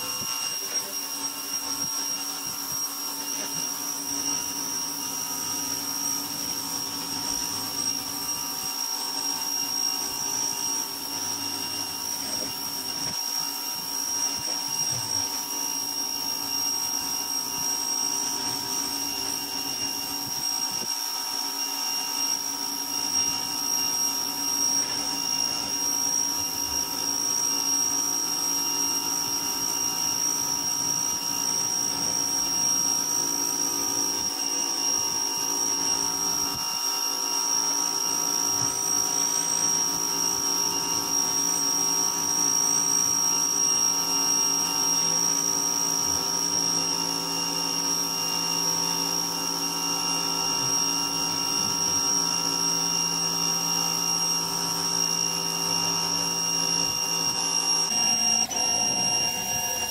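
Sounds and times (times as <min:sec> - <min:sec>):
pressure washer running: 0:00.0 - 0:59.9.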